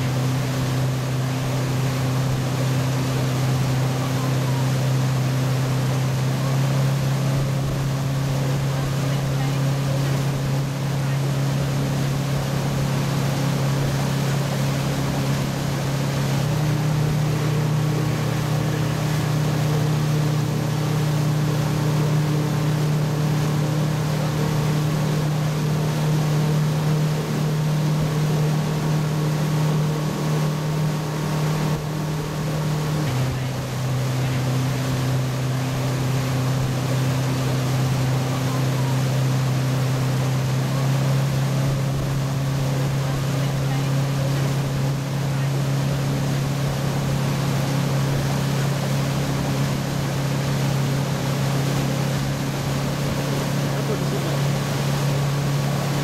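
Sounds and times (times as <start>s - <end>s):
motorboat engine running: 0.0s - 56.0s
wake water rushing: 0.0s - 56.0s
wind: 0.0s - 56.0s.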